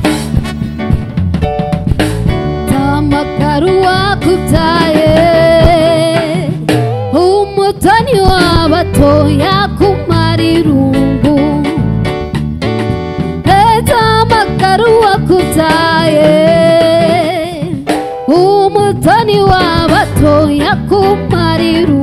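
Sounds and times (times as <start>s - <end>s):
live band playing: 0.0s - 22.0s
woman singing: 2.7s - 11.8s, 13.5s - 22.0s.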